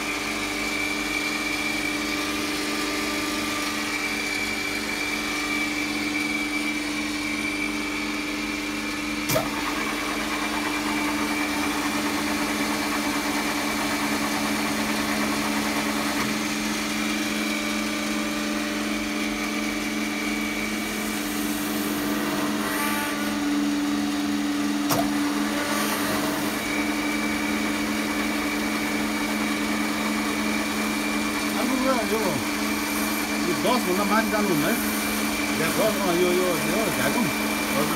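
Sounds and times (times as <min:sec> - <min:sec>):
pumps humming with high whine: 0:00.0 - 0:37.9.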